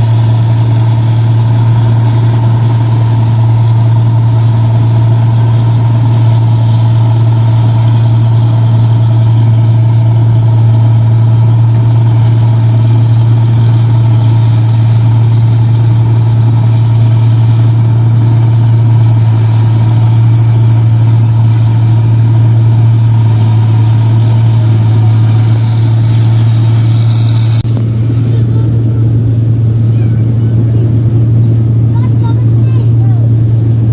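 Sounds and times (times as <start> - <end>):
harvester engine droning: 0.0 - 33.9.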